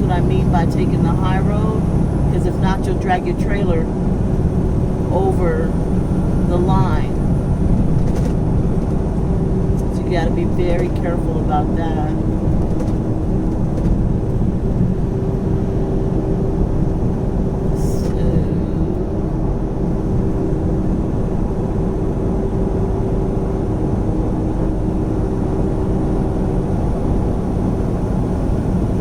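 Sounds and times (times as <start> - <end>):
truck engine and road drone: 0.0 - 29.0.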